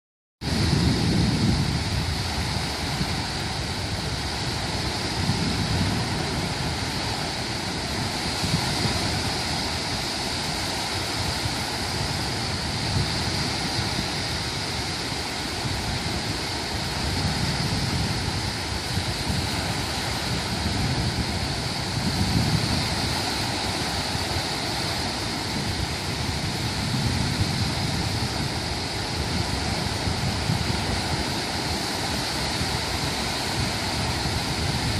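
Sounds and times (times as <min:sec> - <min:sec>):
sea waves washing on shore: 0:00.4 - 0:34.9.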